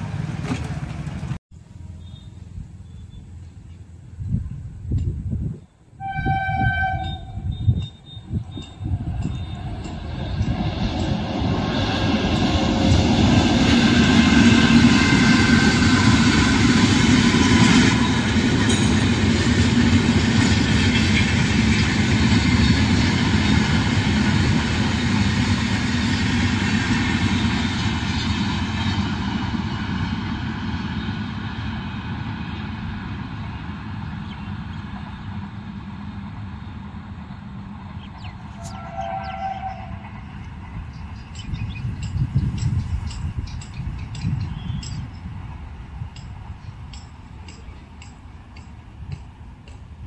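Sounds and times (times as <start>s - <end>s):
train rumbling past: 0.0s - 50.0s.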